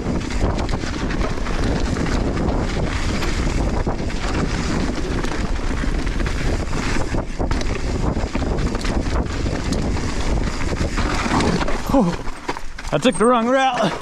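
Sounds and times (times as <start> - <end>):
bike tyres on loose soil: 0.0 - 14.0
wind buffeting microphone: 0.0 - 14.0
bike clicks and knocks: 0.2 - 14.0.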